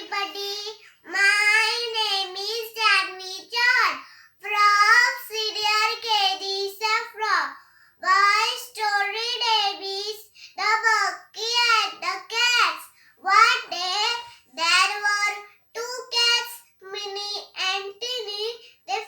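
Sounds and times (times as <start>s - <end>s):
child singing: 0.0s - 19.0s.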